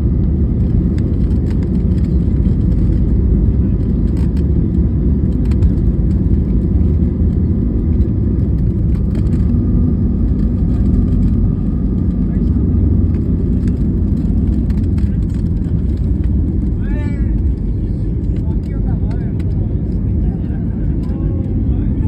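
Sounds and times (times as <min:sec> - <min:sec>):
airplane engines rumbling: 0:00.0 - 0:22.0.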